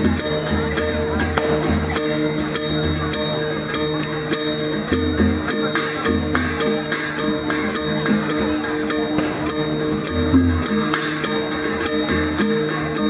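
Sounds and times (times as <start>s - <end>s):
drum beating: 0.0s - 5.5s, 7.6s - 12.6s
cymbal strokes: 0.0s - 13.0s
ringing gongs: 0.0s - 13.0s.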